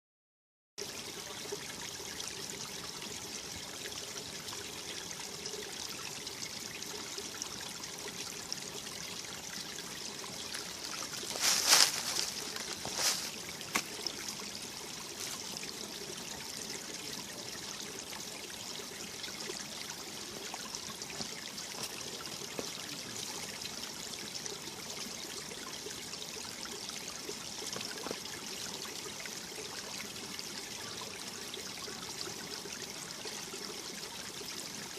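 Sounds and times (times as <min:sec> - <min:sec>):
stream running over rocks: 0:00.8 - 0:34.9.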